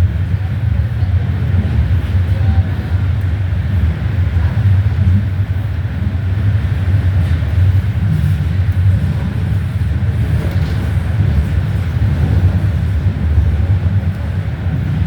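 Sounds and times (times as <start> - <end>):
subway train running: 0.0 - 15.0.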